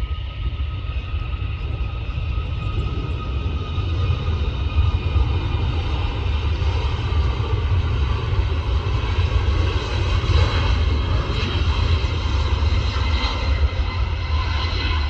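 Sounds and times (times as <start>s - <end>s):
high engine whine: 0.0s - 15.0s
jet engines rumbling: 0.0s - 15.0s.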